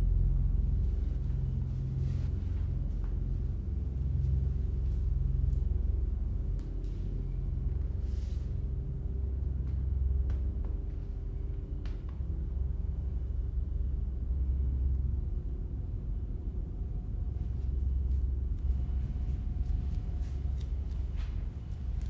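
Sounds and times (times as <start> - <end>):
low rumbling drone: 0.0 - 22.0.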